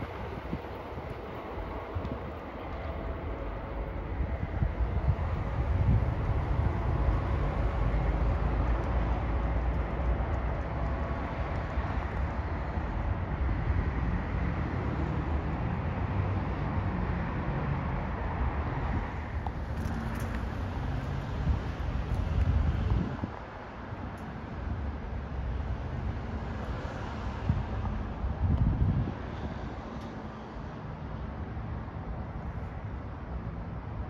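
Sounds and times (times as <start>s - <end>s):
commuter train rumbling: 0.0s - 34.0s.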